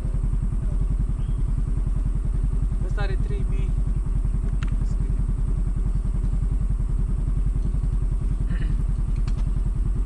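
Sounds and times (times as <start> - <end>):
motor scooter engine running: 0.0 - 10.0.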